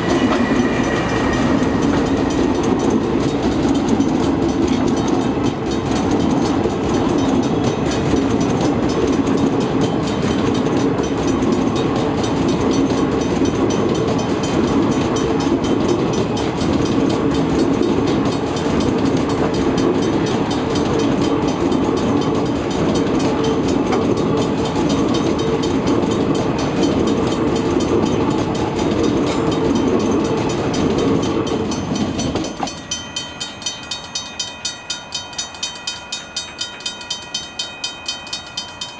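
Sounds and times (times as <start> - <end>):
diesel locomotives rumbling past: 0.0 - 38.9
wheels clicking over rails: 0.0 - 38.9.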